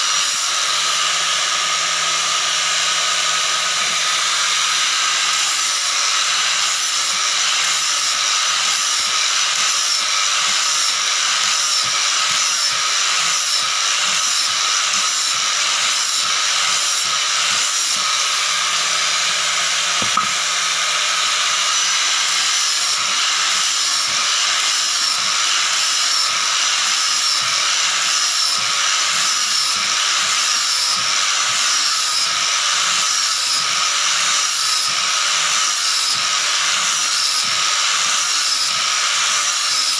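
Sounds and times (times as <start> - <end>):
angle grinder whining on wood: 0.0 - 39.9.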